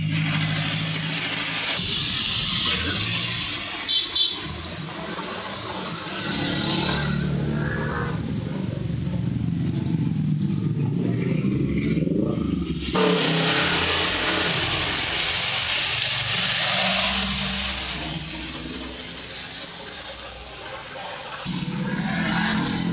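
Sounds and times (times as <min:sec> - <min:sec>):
rain hissing: 0:00.0 - 0:10.3, 0:12.6 - 0:22.9.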